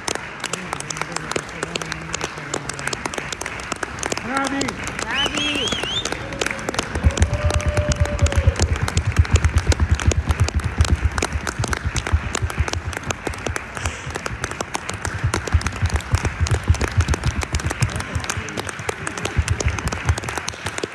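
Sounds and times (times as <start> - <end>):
audience applauding: 0.0 - 20.9.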